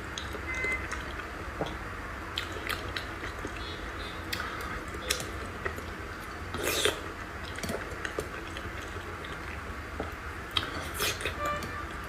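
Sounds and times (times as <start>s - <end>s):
low steady hum: 0.0s - 12.0s
person chewing: 0.1s - 11.6s.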